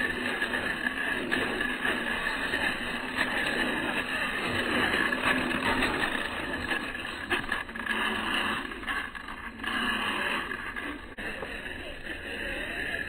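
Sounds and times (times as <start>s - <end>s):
toy car electric motor running: 0.0s - 13.0s.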